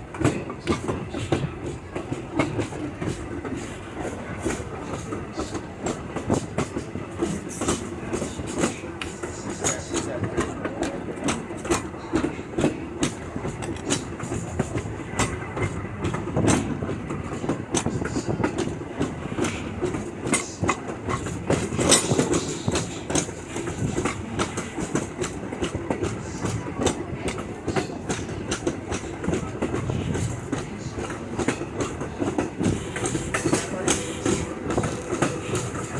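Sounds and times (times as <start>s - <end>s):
steady train rumble: 0.0s - 35.9s
train wheels clacking over rail joints: 0.0s - 35.9s.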